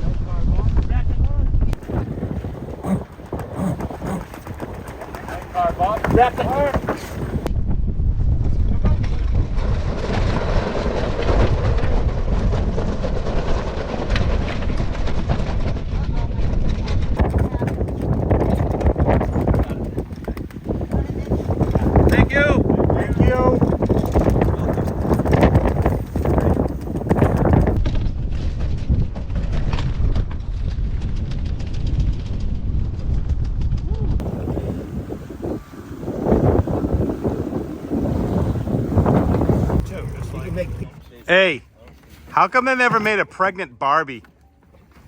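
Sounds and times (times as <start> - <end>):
wind buffeting microphone: 0.0 - 41.5.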